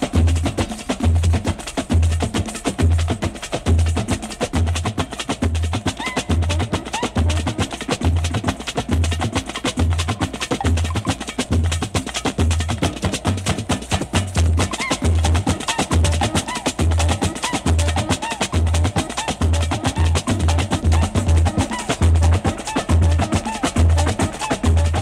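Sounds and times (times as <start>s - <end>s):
clicky percussion: 0.0s - 25.0s.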